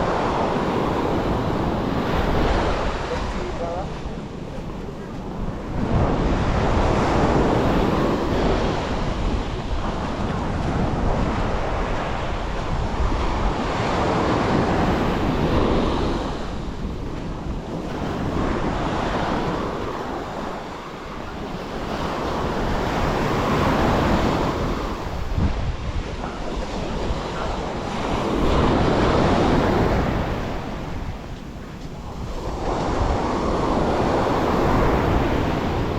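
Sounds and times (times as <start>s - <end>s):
sea waves washing ashore: 0.0s - 35.9s
wind buffeting microphone: 0.0s - 35.9s.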